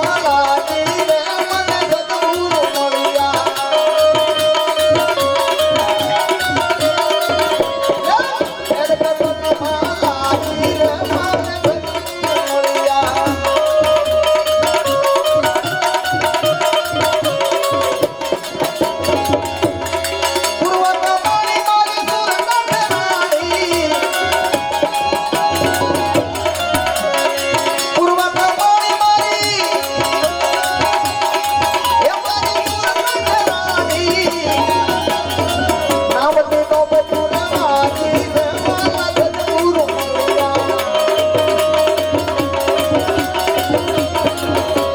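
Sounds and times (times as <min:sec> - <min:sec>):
tabla rhythm: 0:00.0 - 0:44.9.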